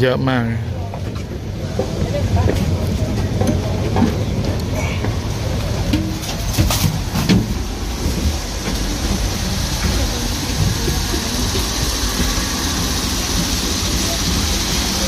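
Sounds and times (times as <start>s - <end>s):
diesel train idling rumble: 0.0s - 15.0s
passengers' voices: 0.0s - 15.0s
footsteps on metal floor plates: 0.9s - 13.6s.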